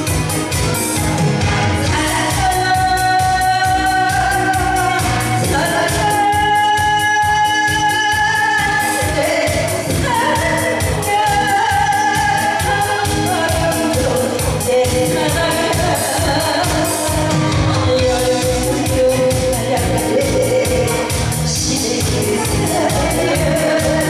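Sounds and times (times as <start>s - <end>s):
backing music with beat: 0.0s - 24.0s
woman singing into microphone: 1.4s - 24.0s.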